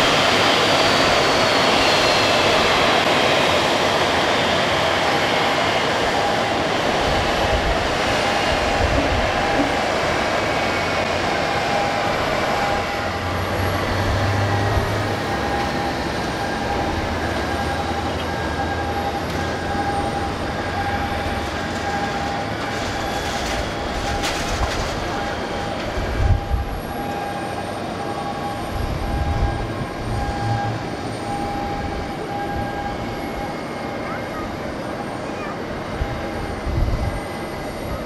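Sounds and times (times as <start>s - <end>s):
jet turbine whine and rushing: 0.0s - 38.0s.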